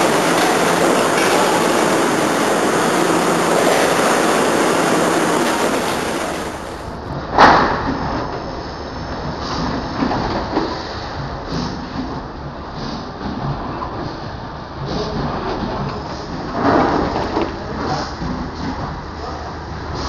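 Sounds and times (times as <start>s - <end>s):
packing machinery running: 0.0s - 20.0s.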